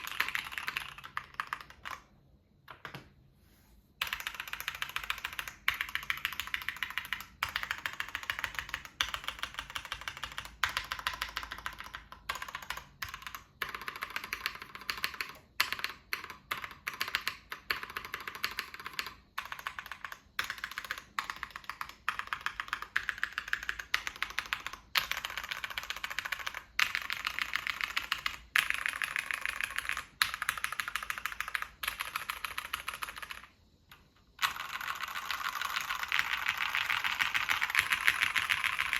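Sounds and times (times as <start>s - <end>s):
mechanical keyboard typing: 0.0s - 3.1s, 4.0s - 38.9s.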